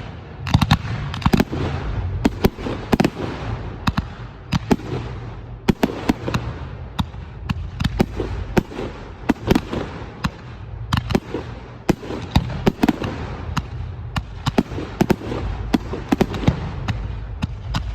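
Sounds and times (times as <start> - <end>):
fireworks bursting: 0.0 - 17.9
low rumble: 0.0 - 17.9.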